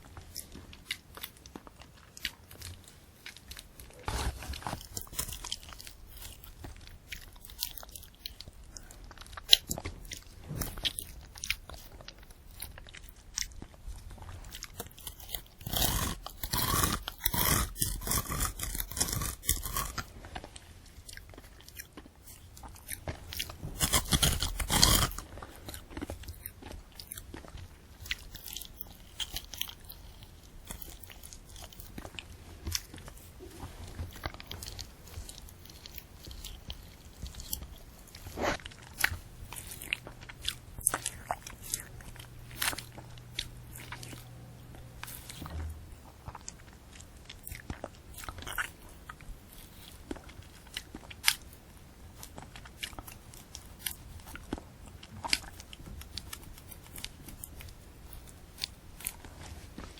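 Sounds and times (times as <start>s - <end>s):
candy apple crunching and chewing: 0.0s - 59.9s.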